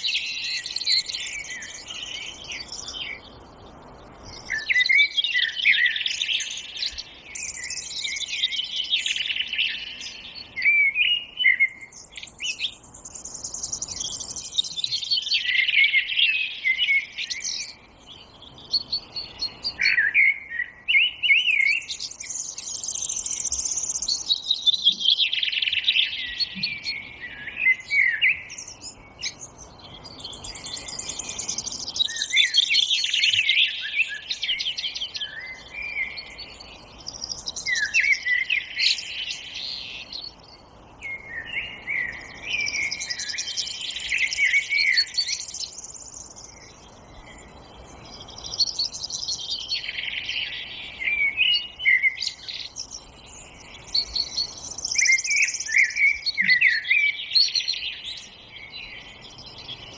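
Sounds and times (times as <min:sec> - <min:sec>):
birds chirping song: 0:00.0 - 0:59.9
faint steady hiss: 0:00.0 - 0:59.9.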